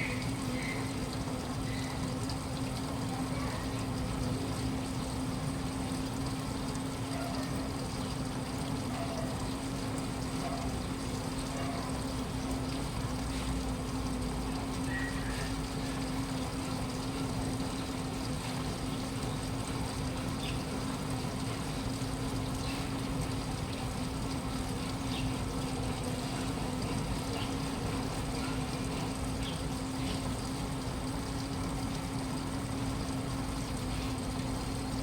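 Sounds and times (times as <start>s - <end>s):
washing machine hum: 0.0s - 35.0s.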